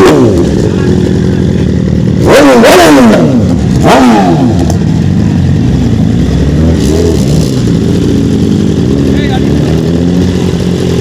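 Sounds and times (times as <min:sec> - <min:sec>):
engine throttle revs: 0:00.0 - 0:11.0
motorcycle engine idling: 0:00.0 - 0:11.0.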